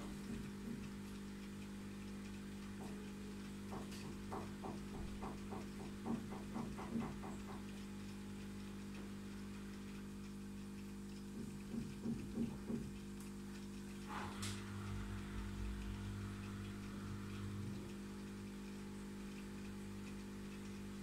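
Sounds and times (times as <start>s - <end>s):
aquarium equipment humming: 0.0s - 21.0s.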